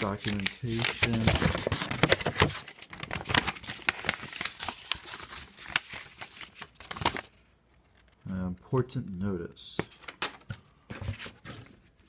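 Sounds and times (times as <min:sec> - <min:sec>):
paper rustling and crinkling: 0:00.0 - 0:08.2, 0:09.8 - 0:12.0.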